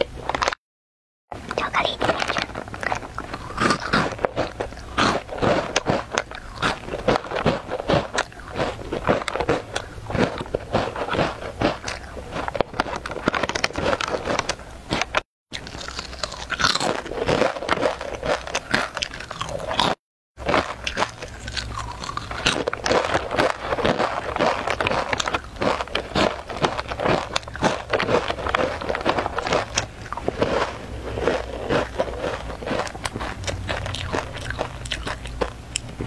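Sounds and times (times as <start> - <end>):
crunching and chewing snack: 0.0 - 0.6, 1.4 - 36.0
snack wrappers crinkling: 1.5 - 36.0.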